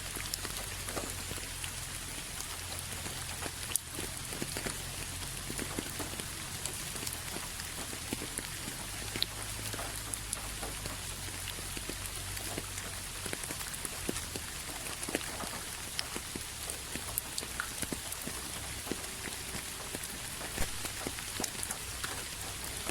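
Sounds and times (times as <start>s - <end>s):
low steady rumble: 0.0s - 22.9s
raindrops ticking on a surface: 0.0s - 22.9s
steady rain falling: 0.0s - 22.9s.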